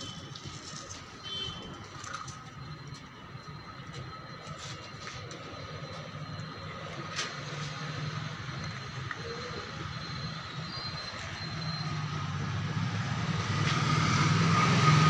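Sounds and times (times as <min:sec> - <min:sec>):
faint high whine: 0:00.8 - 0:13.1.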